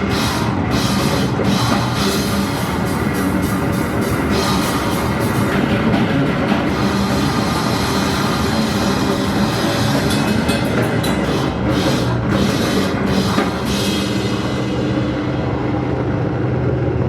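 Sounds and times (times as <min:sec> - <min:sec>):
live band playing loudly: 0:00.0 - 0:15.8
sharp cymbal and drum hits: 0:00.0 - 0:15.9.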